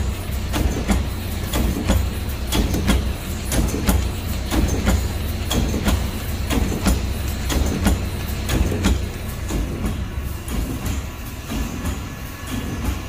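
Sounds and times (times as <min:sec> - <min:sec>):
mechanical clanks: 0:00.0 - 0:13.0
welding machine humming: 0:00.0 - 0:13.0.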